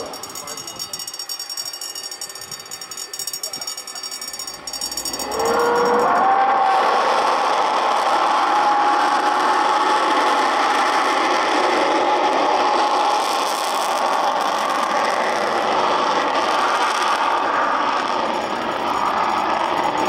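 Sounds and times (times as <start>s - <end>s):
jet engine roar: 0.0s - 20.0s
steady whining jet howl: 0.0s - 20.0s.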